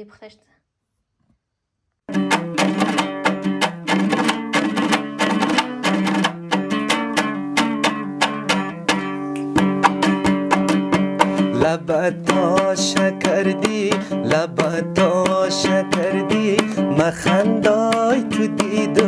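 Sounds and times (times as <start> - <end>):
strummed string instrument music: 2.1 - 19.0.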